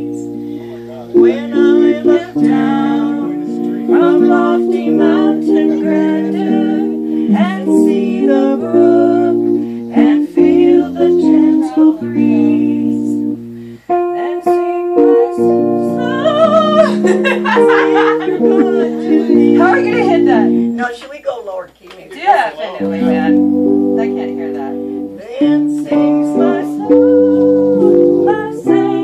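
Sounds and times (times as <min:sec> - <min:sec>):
woman singing a hymn: 0:00.0 - 0:20.8, 0:22.2 - 0:29.0
digital keyboard chords: 0:00.0 - 0:20.9, 0:22.8 - 0:29.0.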